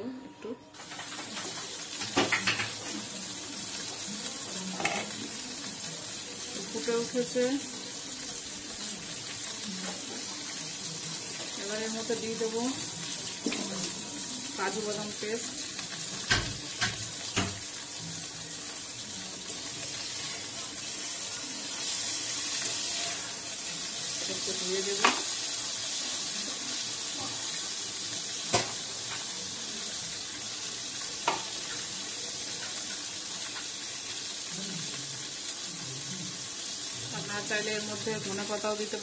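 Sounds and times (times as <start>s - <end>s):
pan boiling and bubbling: 0.7s - 39.0s.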